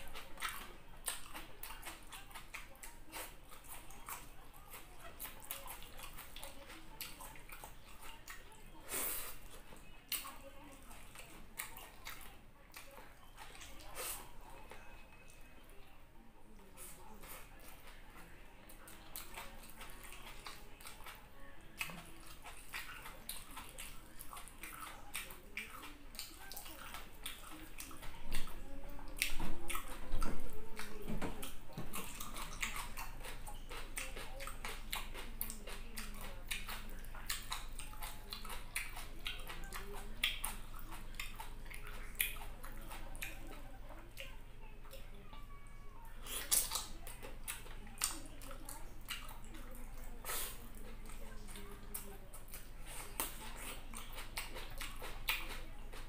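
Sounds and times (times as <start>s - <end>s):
wet chewing and lip-smacking: 0.0s - 15.9s, 16.5s - 56.0s.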